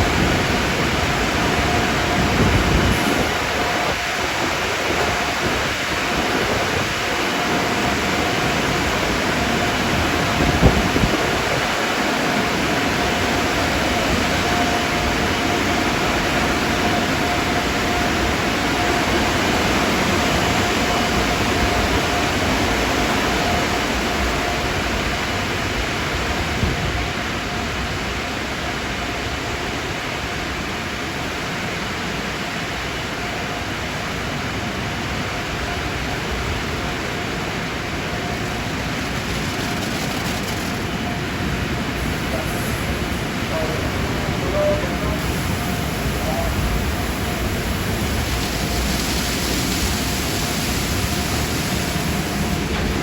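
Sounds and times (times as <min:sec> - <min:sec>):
car wash equipment rushing: 0:00.0 - 0:28.0, 0:34.8 - 0:53.0
thin steady whine: 0:00.0 - 0:53.0.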